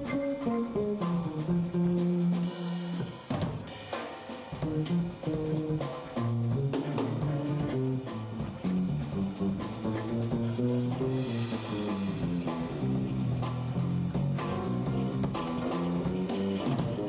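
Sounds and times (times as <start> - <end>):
walking bass line: 0.0 - 2.6, 4.6 - 17.0
drum kit: 0.0 - 17.0
jazz band playing: 0.0 - 17.0.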